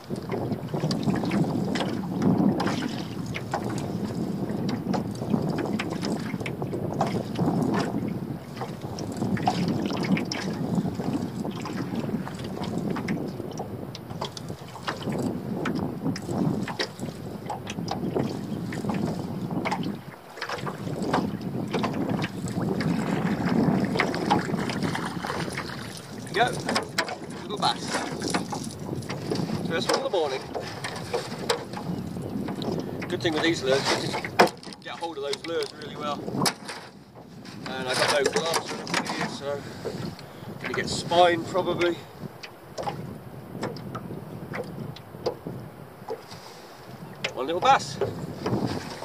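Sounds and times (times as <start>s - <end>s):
water lapping against boat hull: 0.0s - 49.0s
wind on microphone: 0.0s - 49.0s
light knocks on hull: 0.2s - 40.0s, 41.8s - 46.3s, 47.1s - 49.0s.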